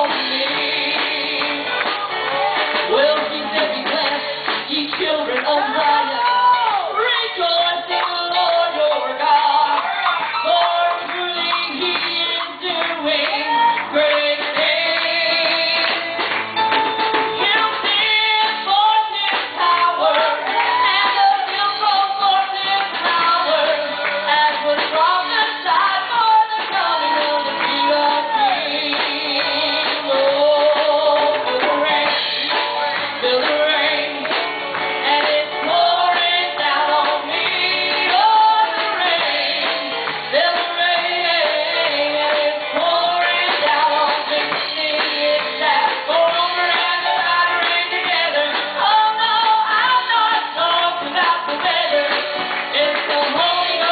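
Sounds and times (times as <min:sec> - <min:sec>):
woman singing: 0:00.0 - 0:16.4, 0:17.4 - 0:53.9
band accompaniment with beat: 0:00.0 - 0:53.9.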